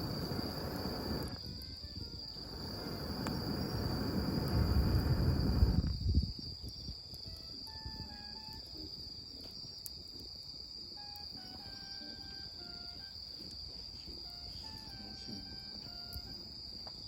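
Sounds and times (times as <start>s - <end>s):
insects shrilling: 0.0s - 17.0s.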